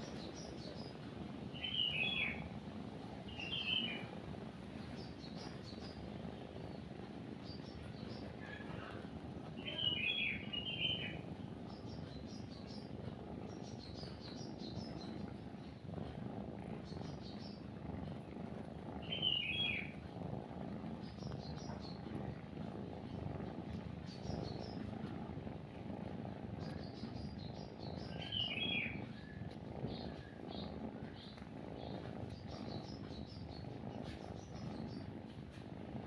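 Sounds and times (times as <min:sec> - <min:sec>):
small birds chirping: 0:00.0 - 0:35.8
kitten purring: 0:00.0 - 0:36.0.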